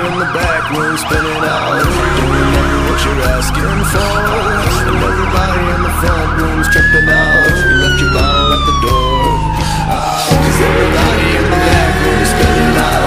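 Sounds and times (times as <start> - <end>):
fire engine sirens: 0.0 - 13.0.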